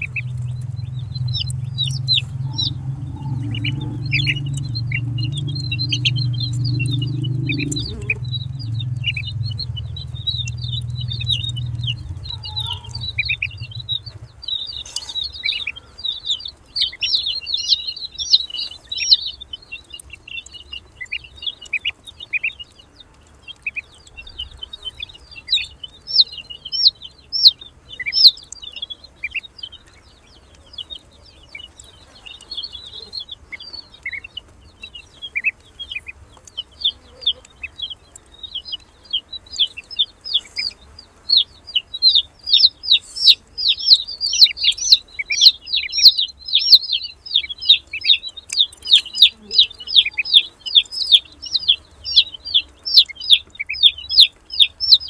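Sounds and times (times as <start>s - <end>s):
ducklings peeping: 0.0s - 55.0s.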